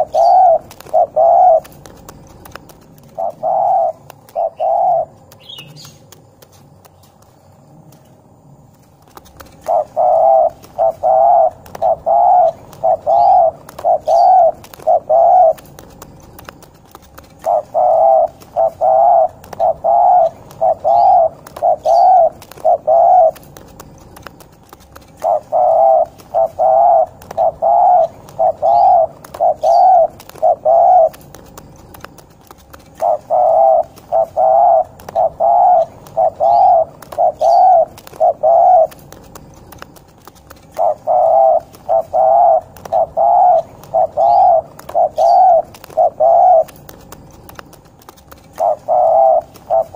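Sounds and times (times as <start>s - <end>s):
dove cooing: 0.0s - 6.5s, 9.0s - 49.9s.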